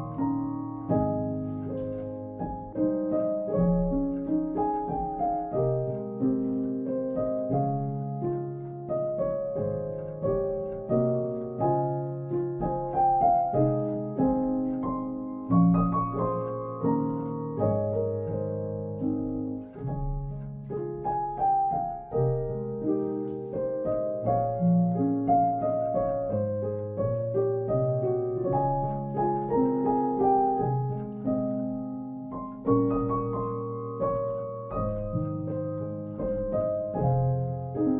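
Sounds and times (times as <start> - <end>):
piano notes and chords: 0.0 - 37.9.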